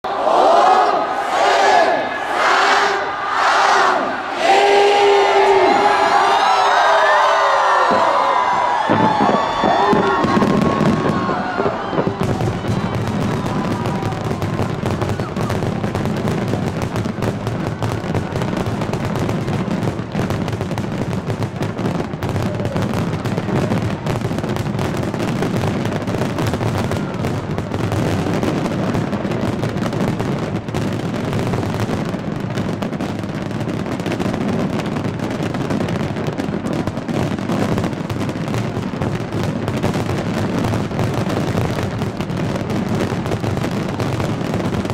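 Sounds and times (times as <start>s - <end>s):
fireworks barrage: 0.0s - 44.9s.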